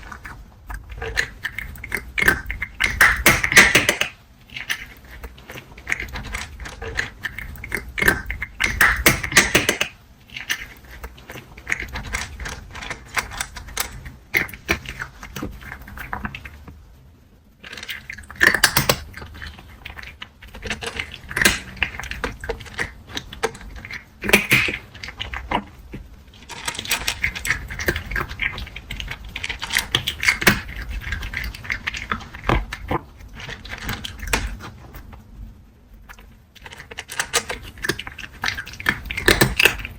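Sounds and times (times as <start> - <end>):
cat crunching dry kibble: 0.0 - 17.0, 17.6 - 39.9.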